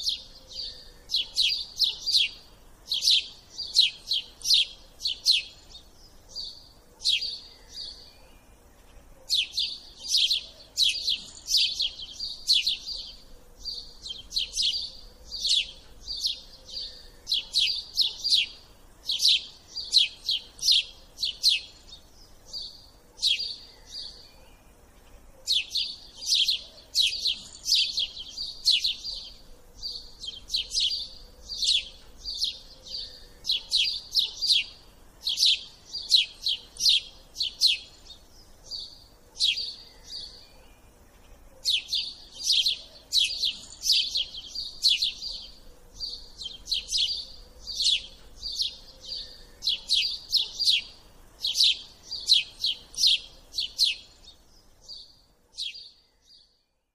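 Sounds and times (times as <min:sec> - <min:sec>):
bird chirping: 0:00.0 - 0:56.9.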